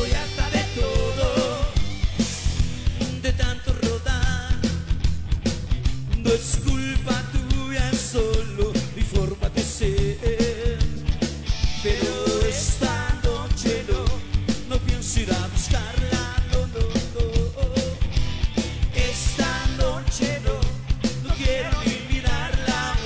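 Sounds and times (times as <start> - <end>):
driving drumbeat: 0.0 - 23.0
live ska-rock band: 0.0 - 23.0.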